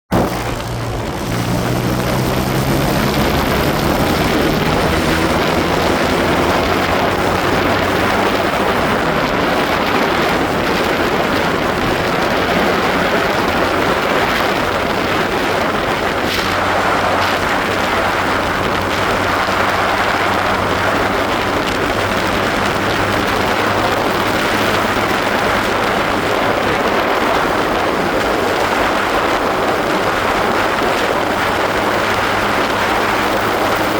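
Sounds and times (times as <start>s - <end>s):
wind and road noise: 0.0s - 33.9s
motorcycle engine pulling away: 0.1s - 33.9s.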